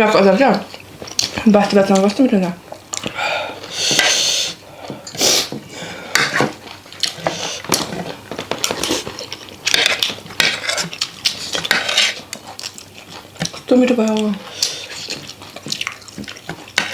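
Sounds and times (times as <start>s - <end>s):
eating noises: 0.0s - 16.9s.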